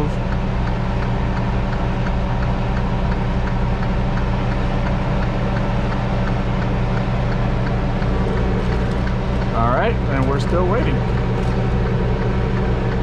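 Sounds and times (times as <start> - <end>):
diesel engine idling: 0.0 - 13.0
faint regular ticking: 0.1 - 13.0.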